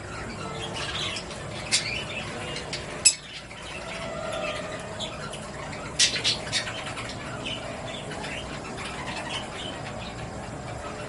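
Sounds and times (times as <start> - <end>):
parrots chirping: 0.0 - 11.0
soft bird chatter: 0.0 - 11.0.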